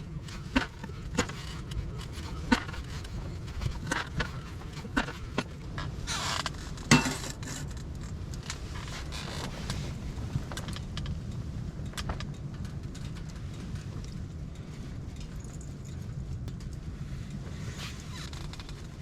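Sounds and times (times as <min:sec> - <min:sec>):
camp gear clicking and clinking: 0:00.0 - 0:19.0
wind buffeting microphone: 0:00.0 - 0:19.0.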